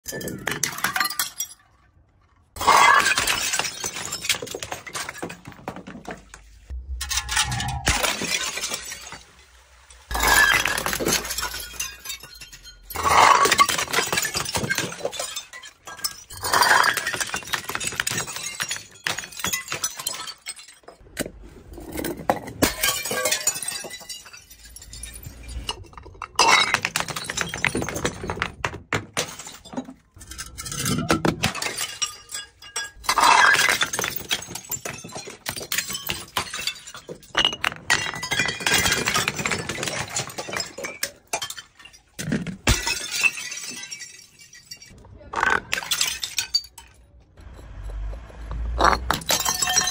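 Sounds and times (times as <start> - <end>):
glass bottles smashing: 0.0 - 49.9
glass shards clinking down steps: 7.0 - 21.0, 21.8 - 28.5, 29.2 - 49.9.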